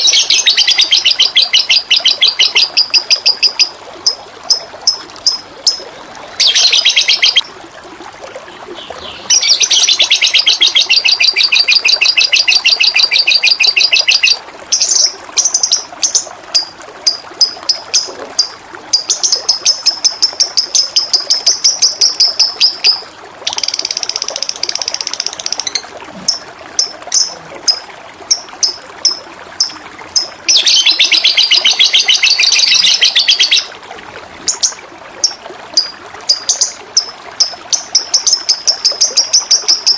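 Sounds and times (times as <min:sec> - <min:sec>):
songbird singing trills and chirps: 0:00.0 - 0:07.5, 0:08.8 - 0:33.7
running water rushing: 0:00.0 - 0:39.9.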